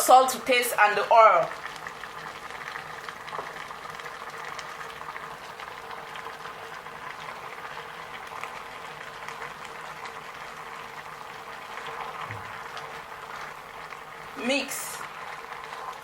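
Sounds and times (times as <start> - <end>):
soup bubbling on the boil: 0.0 - 16.0.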